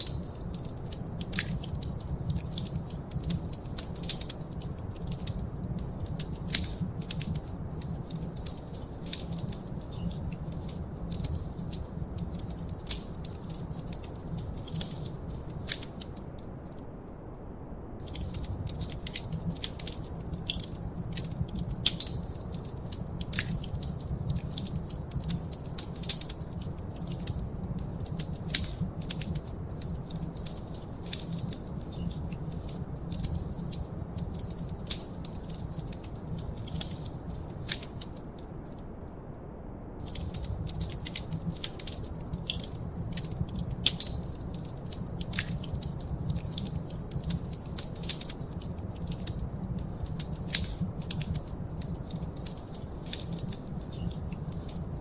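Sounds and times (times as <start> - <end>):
fireplace fire crackling and popping: 0.0 - 17.3, 18.0 - 55.0.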